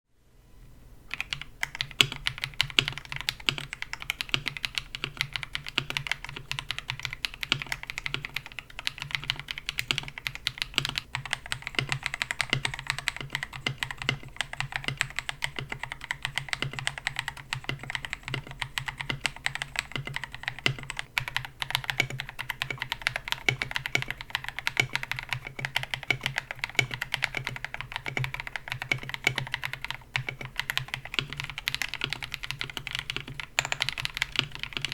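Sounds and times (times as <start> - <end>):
fast mechanical keyboard typing: 1.1 - 34.9.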